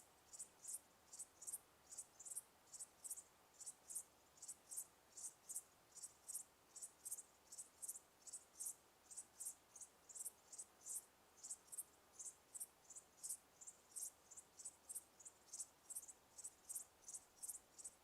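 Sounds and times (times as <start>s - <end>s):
crickets chirping: 0.3s - 18.0s.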